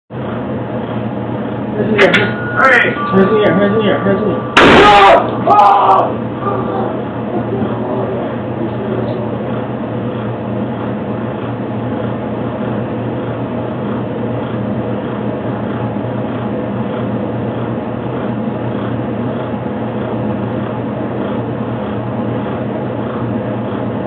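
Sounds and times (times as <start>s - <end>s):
low mechanical hum: 0.1s - 24.0s.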